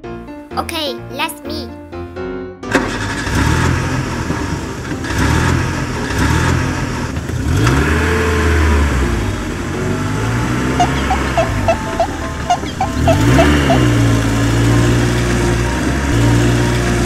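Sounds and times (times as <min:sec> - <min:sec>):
truck engine revving: 0:02.6 - 0:17.0.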